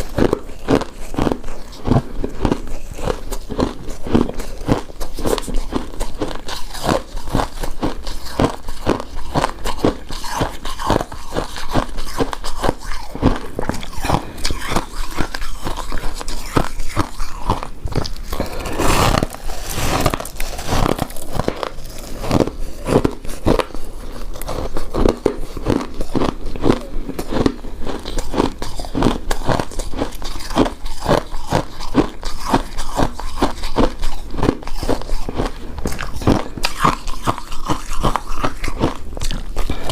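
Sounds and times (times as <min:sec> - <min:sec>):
chewing rice cake: 0:00.0 - 0:39.9.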